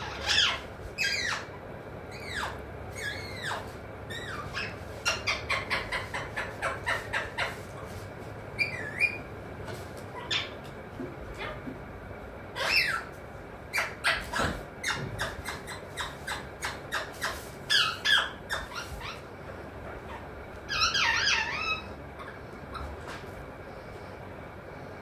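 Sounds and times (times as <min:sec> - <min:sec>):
parakeet squawking and chattering: 0:00.0 - 0:09.3, 0:10.1 - 0:10.7, 0:11.3 - 0:11.7, 0:12.5 - 0:23.2.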